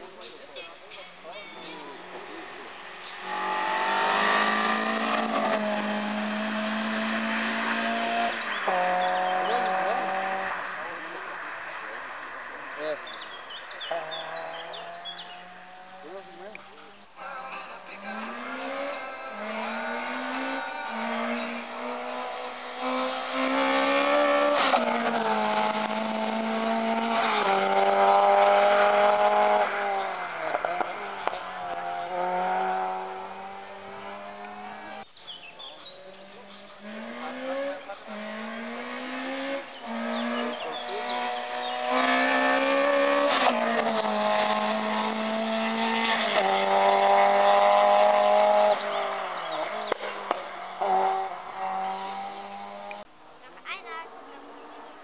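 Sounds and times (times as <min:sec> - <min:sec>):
racing car engine at full throttle: 0:01.4 - 0:53.1.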